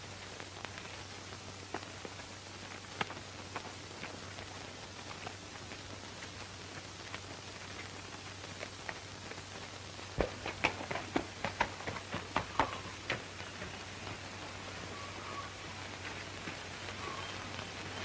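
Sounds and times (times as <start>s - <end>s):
film soundtrack hiss: 0.0s - 18.0s
horse hooves clopping: 0.0s - 18.0s.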